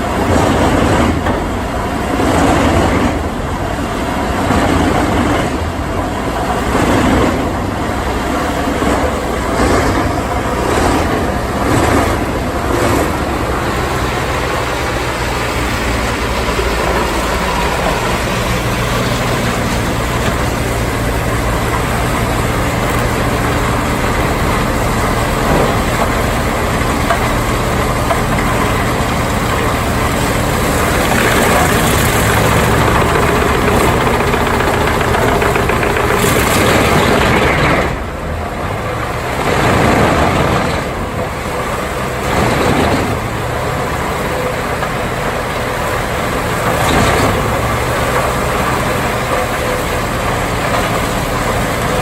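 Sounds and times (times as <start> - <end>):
wood chipper engine running: 0.0 - 52.0
wood chipper grinding: 0.0 - 52.0.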